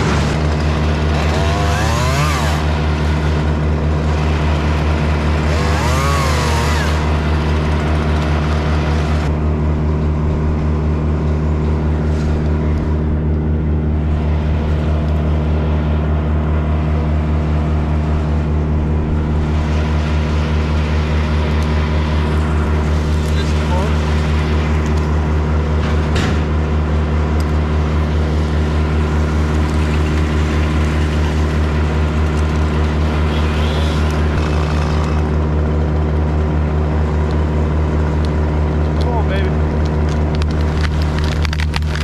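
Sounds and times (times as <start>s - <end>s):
engine running steadily: 0.0s - 42.0s.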